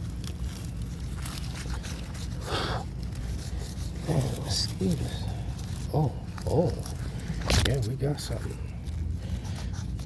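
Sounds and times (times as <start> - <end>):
hands digging in soil: 0.0 - 10.0
leaves rustling: 0.0 - 10.0.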